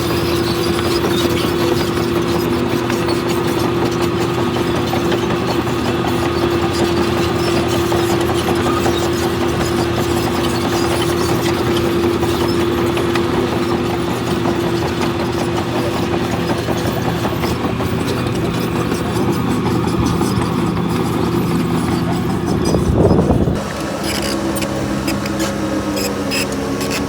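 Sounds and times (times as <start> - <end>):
heavy diesel engine clattering: 0.0 - 27.0.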